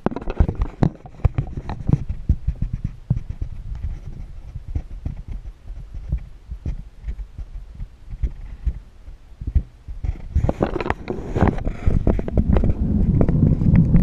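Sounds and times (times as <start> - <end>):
camera handling knocks and rubbing: 0.0 - 8.8, 9.4 - 13.4
low rumble: 0.7 - 14.0.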